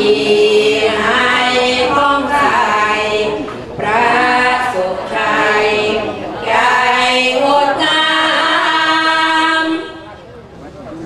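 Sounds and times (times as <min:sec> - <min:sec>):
women chanting in unison: 0:00.0 - 0:10.0.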